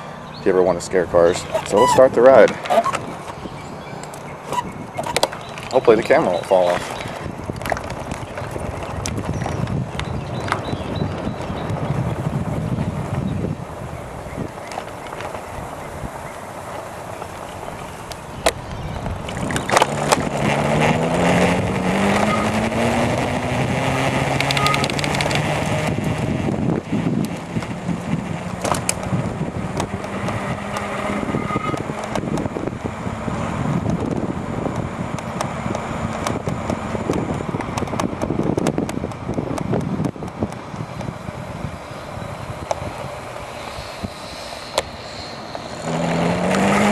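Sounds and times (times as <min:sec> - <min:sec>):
tyre and wind noise: 0:00.0 - 0:46.9
electric hub motor whining: 0:07.2 - 0:46.9.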